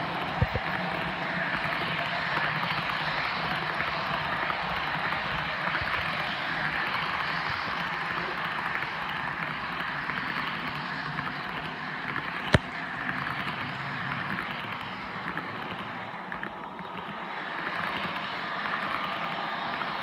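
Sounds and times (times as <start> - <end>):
model train diesel engine sound: 0.0 - 20.0.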